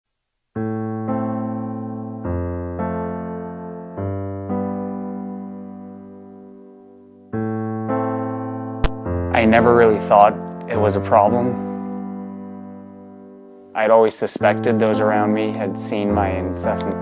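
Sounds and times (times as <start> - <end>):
soft electric piano chords: 0.6 - 17.0.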